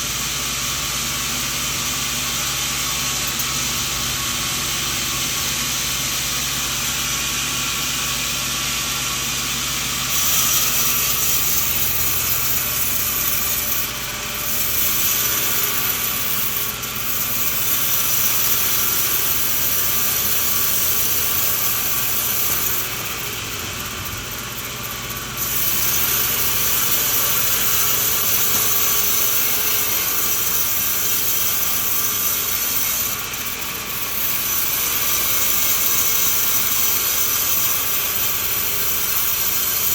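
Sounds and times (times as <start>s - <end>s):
sawmill sawing through log: 0.0s - 39.9s.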